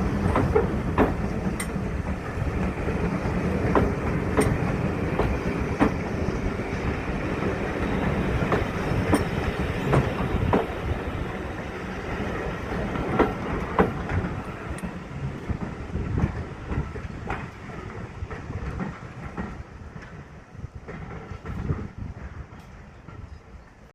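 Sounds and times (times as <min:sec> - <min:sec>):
train rumble: 0:00.0 - 0:23.9
train wheels clicking over rail joints: 0:00.0 - 0:23.9.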